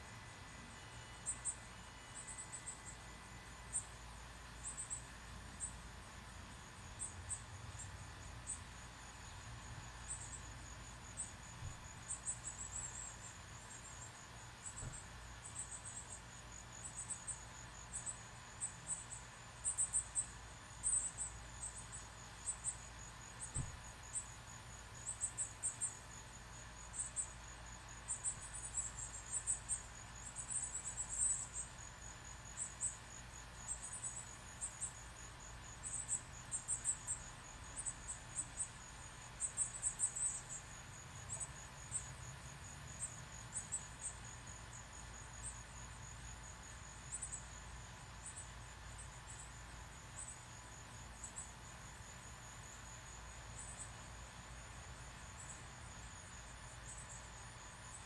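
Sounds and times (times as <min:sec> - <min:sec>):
pulsing insect trill: 0:00.0 - 0:58.0.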